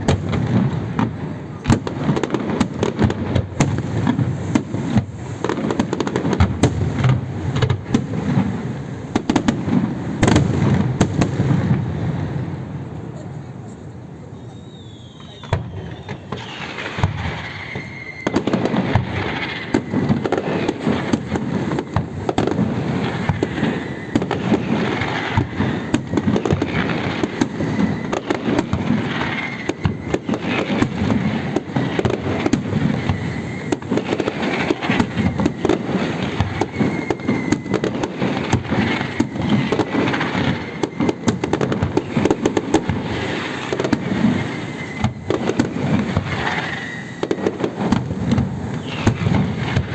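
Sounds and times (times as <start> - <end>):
faint firework whistles: 0.0 - 49.9
fireworks bangs and crackling: 0.0 - 49.9.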